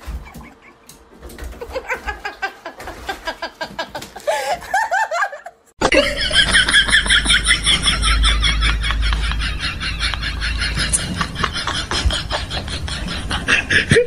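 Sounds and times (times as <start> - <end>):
person laughing: 1.5 - 14.0.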